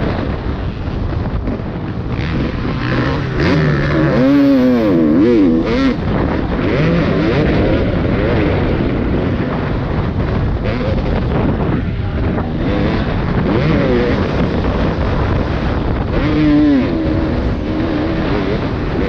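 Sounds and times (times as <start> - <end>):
wind noise on microphone: 0.0 - 19.0
motocross bike engine revving: 1.3 - 19.0.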